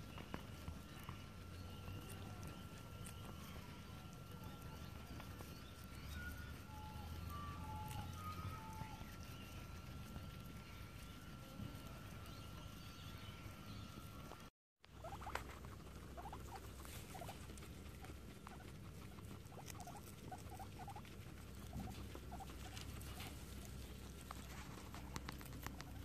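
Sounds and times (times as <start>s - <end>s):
guinea pigs crunching grass: 0.0s - 26.0s.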